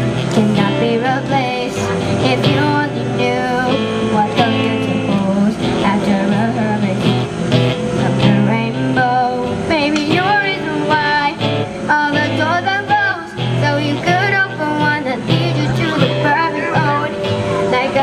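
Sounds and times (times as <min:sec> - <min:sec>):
woman singing pop song: 0:00.0 - 0:18.0.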